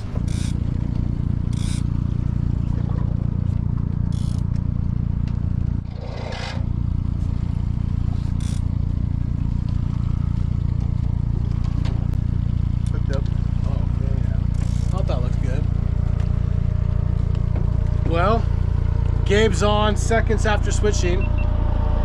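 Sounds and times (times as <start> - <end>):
gear scraping and clattering: 0.0 - 12.2, 12.8 - 21.2
outboard motor rumbling: 0.0 - 22.0.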